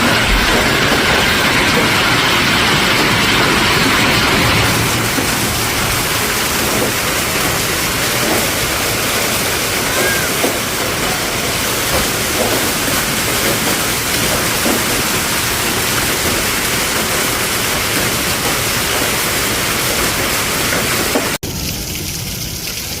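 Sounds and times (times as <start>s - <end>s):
hailstones knocking: 0.0s - 22.4s
heavy rain hissing: 0.0s - 23.0s.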